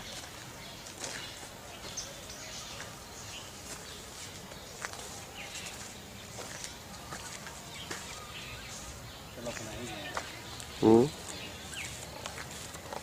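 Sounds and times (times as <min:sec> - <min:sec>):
birds chirping: 0:00.0 - 0:13.0
outdoor background noise: 0:00.0 - 0:13.0.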